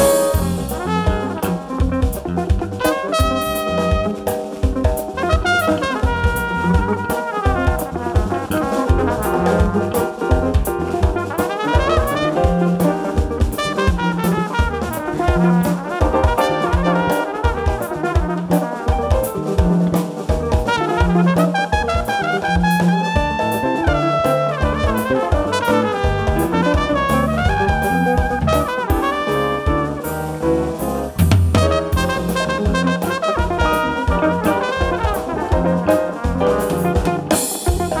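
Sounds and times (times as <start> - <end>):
live jazz band playing: 0.0 - 38.0
trumpet melody: 0.0 - 38.0.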